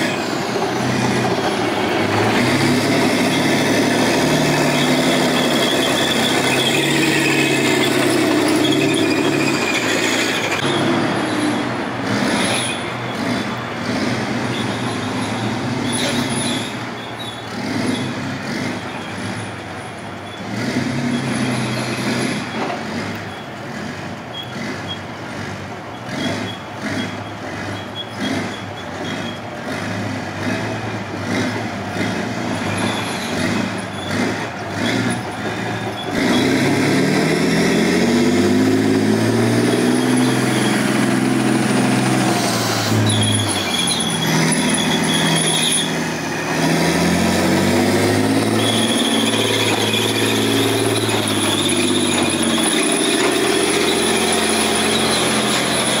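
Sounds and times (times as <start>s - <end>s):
running gear squealing: 0.0s - 13.6s, 14.4s - 23.6s, 24.3s - 25.1s, 25.9s - 29.6s, 32.4s - 37.9s, 38.5s - 56.0s
tracked vehicle engines: 0.0s - 56.0s
tracks clattering on road: 0.0s - 56.0s.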